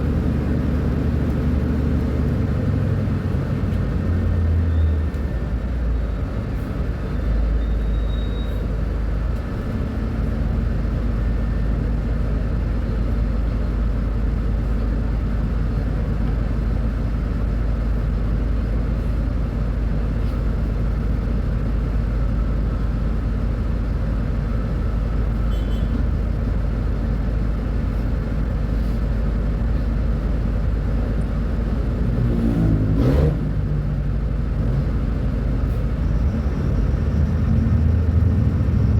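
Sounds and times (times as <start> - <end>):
bus diesel engine rumbling: 0.0 - 38.9.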